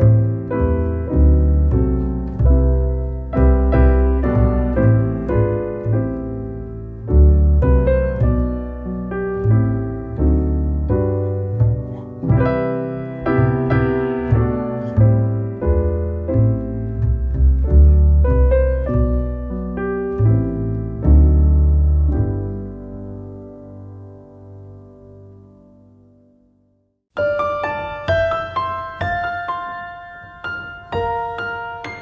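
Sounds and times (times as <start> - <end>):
gentle piano piece: 0.0 - 32.0.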